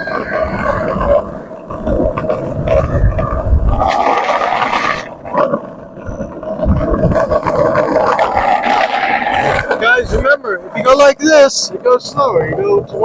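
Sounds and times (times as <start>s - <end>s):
skateboard wheels rolling on asphalt: 0.0s - 13.0s
wind gusting on microphone: 0.0s - 13.0s.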